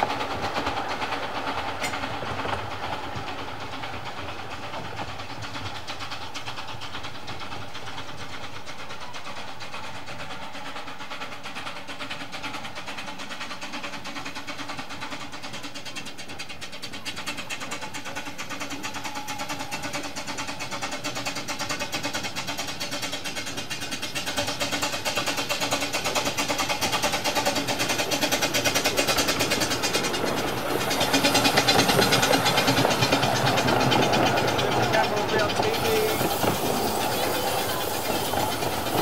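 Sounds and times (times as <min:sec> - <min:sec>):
steam locomotive exhaust beats: 0:00.0 - 0:39.0.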